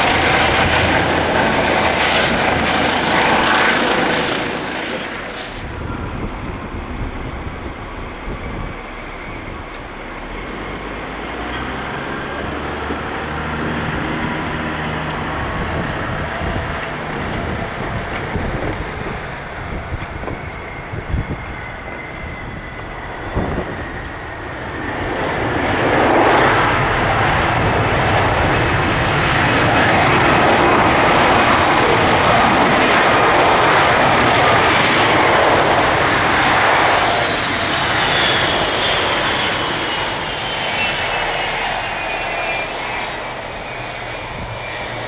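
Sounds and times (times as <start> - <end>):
jet engines rumbling on landing: 0.0 - 45.0.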